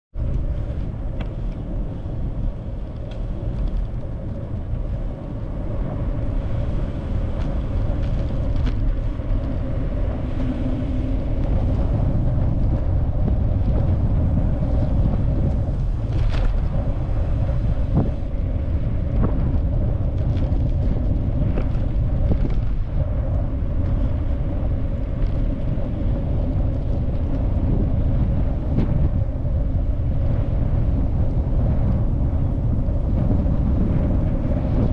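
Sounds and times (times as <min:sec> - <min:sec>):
constant hum: 0:00.1 - 0:34.9
low rumble: 0:00.1 - 0:34.9.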